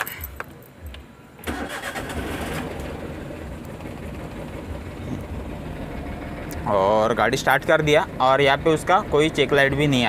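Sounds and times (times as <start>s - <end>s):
car engine starting and idling: 1.4s - 10.0s.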